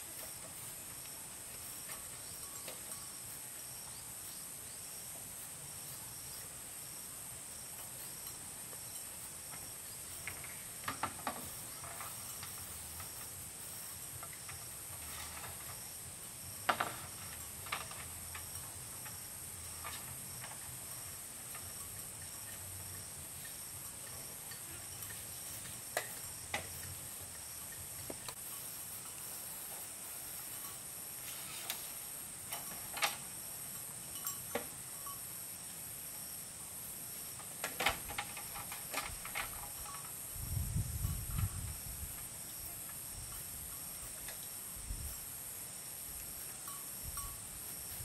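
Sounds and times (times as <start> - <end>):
insect chorus: 0.0 - 48.0.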